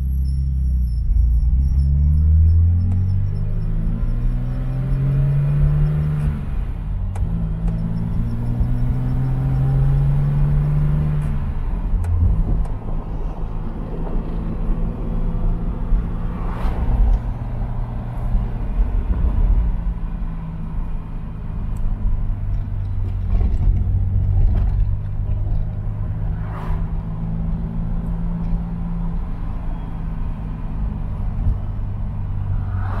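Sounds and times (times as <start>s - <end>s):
car engine drone: 0.0s - 33.0s
road noise: 0.0s - 33.0s.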